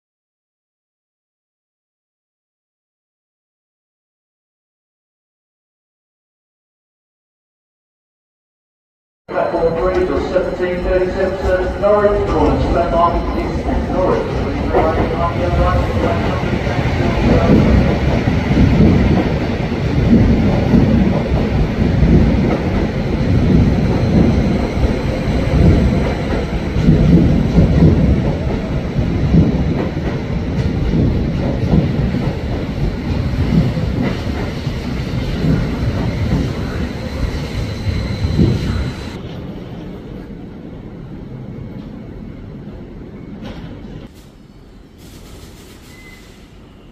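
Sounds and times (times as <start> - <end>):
train rumbling past: 9.3 - 46.9.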